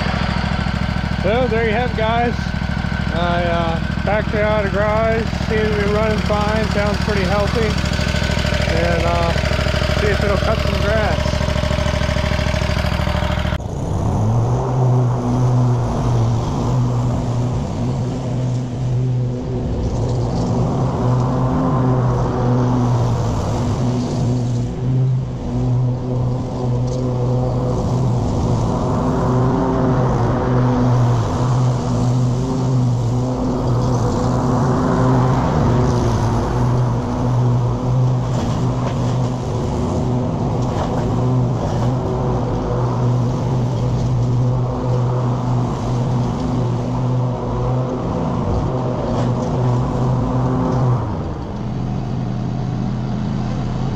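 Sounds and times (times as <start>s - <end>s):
mower engine running: 0.0s - 53.9s.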